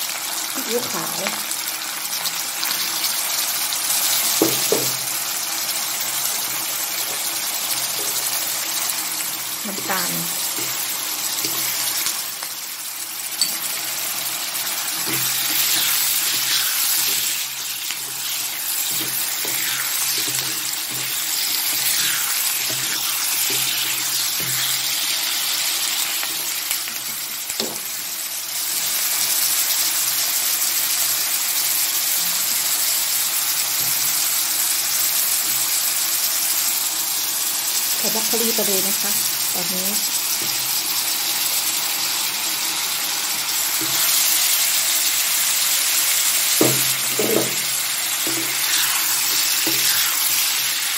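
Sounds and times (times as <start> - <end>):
food sizzling in a wok: 0.0 - 50.9.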